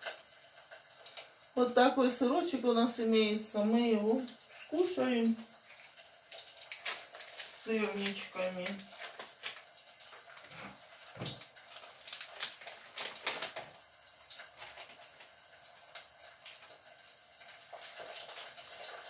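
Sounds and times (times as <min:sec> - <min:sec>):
pancakes sizzling in oil: 0:00.0 - 0:19.0.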